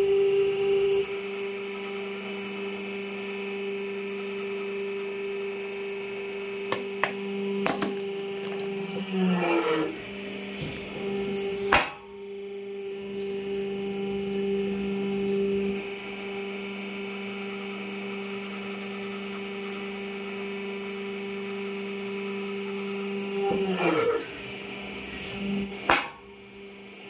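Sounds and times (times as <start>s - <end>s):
hydraulic pump motor hum: 0.0s - 27.0s.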